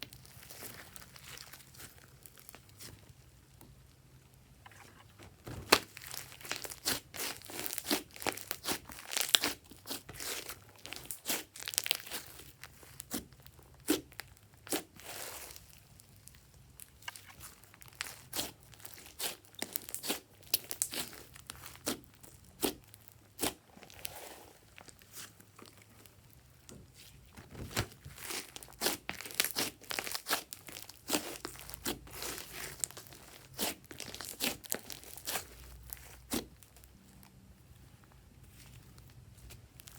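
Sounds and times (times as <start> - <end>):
slime squishing with sticky crackles: 0.0 - 39.9.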